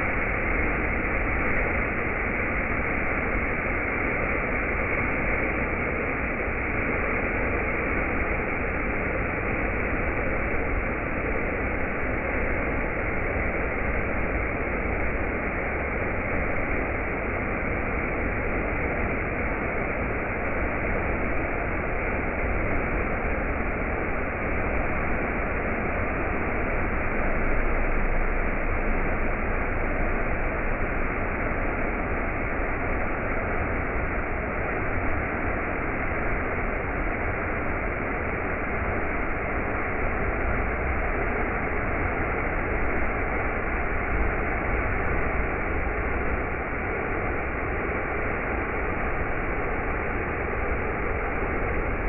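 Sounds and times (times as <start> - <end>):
steady rushing noise: 0.0 - 52.0.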